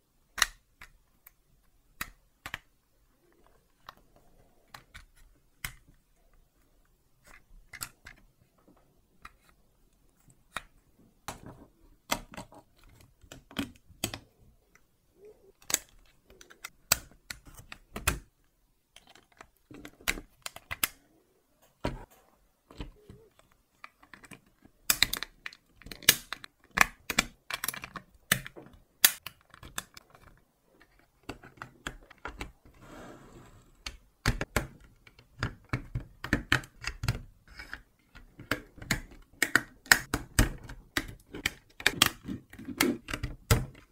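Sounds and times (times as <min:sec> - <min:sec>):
plastic parts clicking together: 0:00.2 - 0:21.0, 0:22.6 - 0:32.8, 0:33.8 - 0:43.9.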